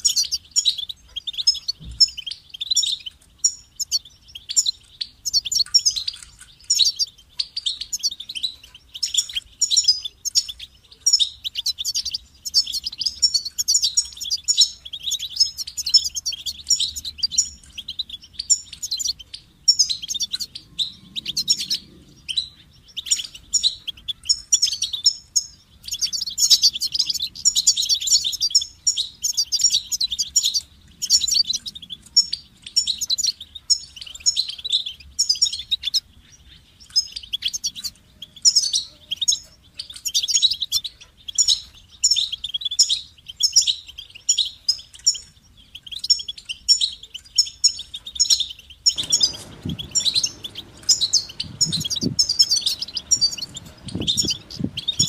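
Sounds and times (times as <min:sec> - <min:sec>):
bird twittering song: 0:00.0 - 0:55.0.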